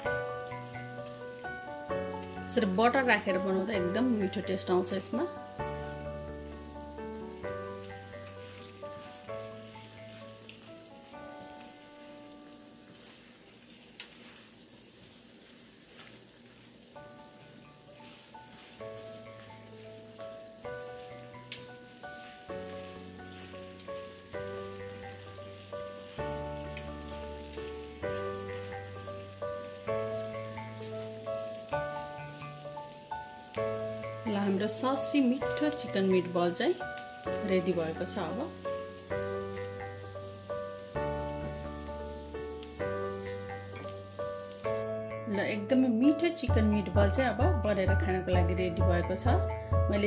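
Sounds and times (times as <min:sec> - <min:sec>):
spatula turning food: 0:00.0 - 0:04.0, 0:04.7 - 0:44.8
gentle instrumental music: 0:00.0 - 0:14.6, 0:15.6 - 0:50.0
meatballs sizzling in a pan: 0:00.0 - 0:50.0.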